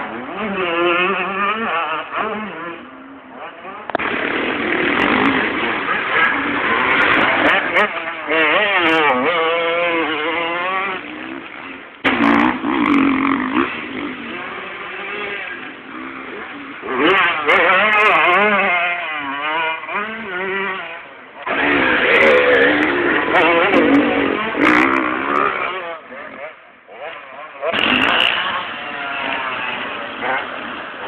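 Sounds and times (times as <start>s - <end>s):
motocross bike engines revving: 0.0s - 31.0s.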